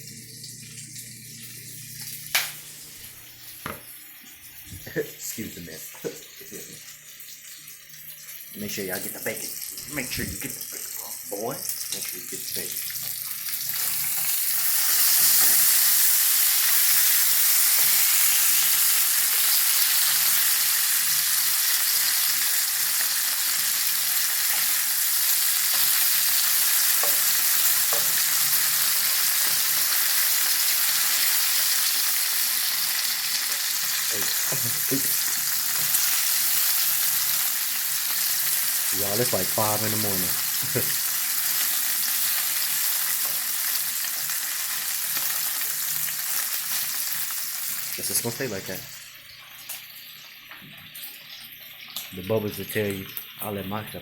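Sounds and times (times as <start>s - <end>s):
bacon sizzling in a frying pan: 0.0s - 54.0s.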